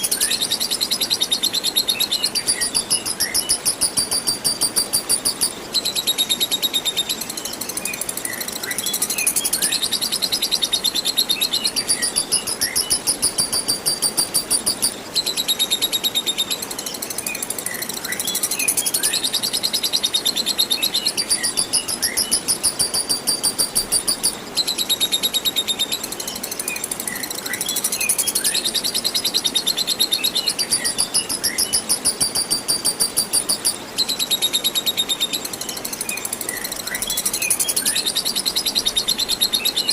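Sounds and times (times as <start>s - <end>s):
lovebird rapid chattering: 0.0s - 39.9s
running water hiss: 0.0s - 39.9s
small birds chirping: 0.0s - 39.9s.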